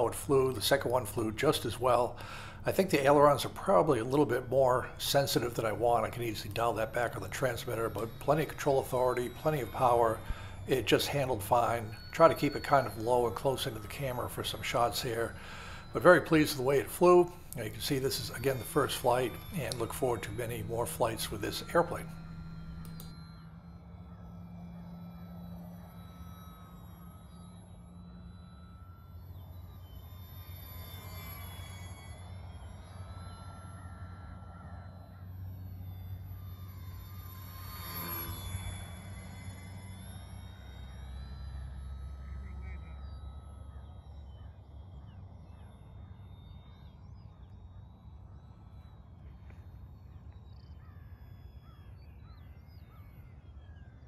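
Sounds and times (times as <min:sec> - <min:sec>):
birds chirping: 0:00.0 - 0:39.8, 0:40.4 - 0:54.0
faint thin whines: 0:00.0 - 0:54.0
model airplane motor humming: 0:00.0 - 0:54.0.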